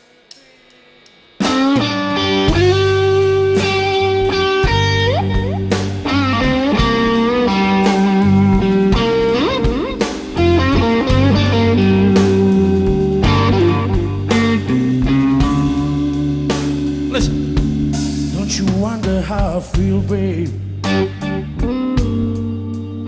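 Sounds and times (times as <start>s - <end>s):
bass and drums: 1.2s - 23.0s
blues band playing: 1.4s - 23.0s
electric guitar bending notes: 1.4s - 23.0s.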